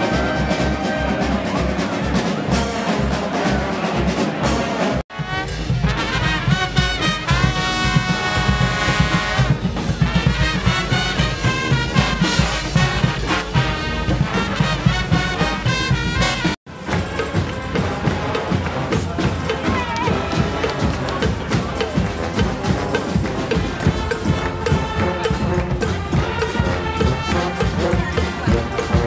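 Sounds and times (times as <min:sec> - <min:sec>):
brass band playing over drums: 0:00.0 - 0:29.0
street band with low drum beat: 0:00.0 - 0:29.0.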